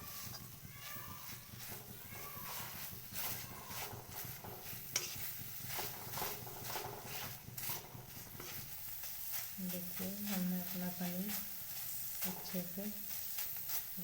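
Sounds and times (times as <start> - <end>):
light sizzle: 0.0 - 14.0
spoon scraping a pan: 0.0 - 14.0.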